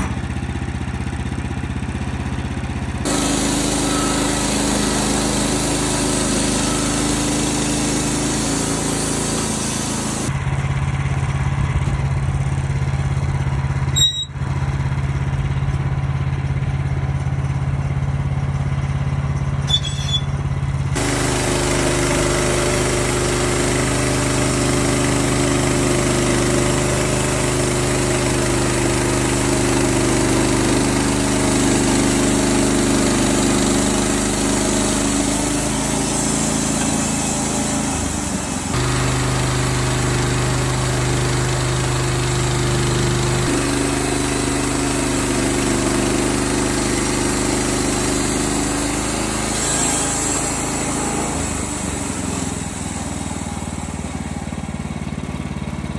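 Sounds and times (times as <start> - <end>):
band sawmill engine humming: 0.0 - 55.9.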